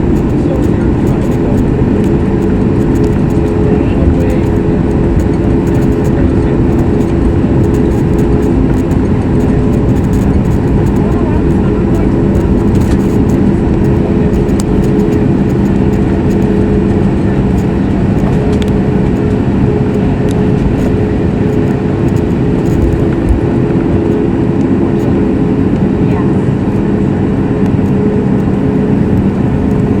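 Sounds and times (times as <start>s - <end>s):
airplane cabin noise: 0.0s - 30.0s
jet engine hum: 0.0s - 30.0s.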